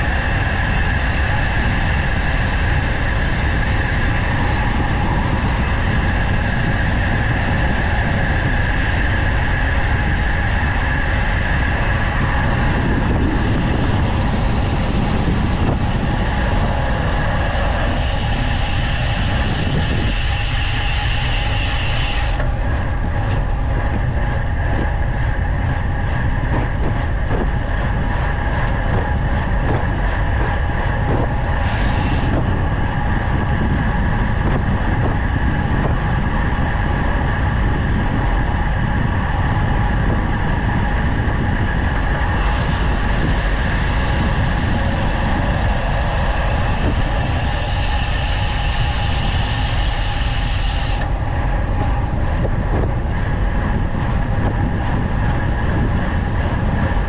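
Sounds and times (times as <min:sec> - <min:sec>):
bicycle road rumble: 0:00.0 - 0:57.0
wind rush: 0:00.0 - 0:57.0.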